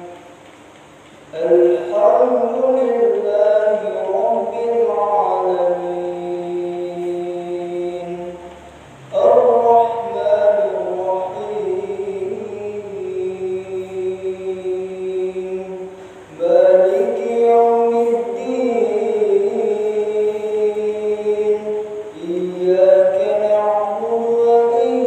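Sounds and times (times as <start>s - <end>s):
man chanting recitation: 0.0s - 0.4s, 1.2s - 25.0s.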